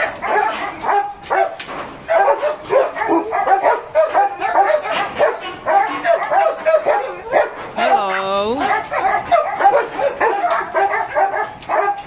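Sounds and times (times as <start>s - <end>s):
dogs barking and yelping: 0.0s - 12.0s.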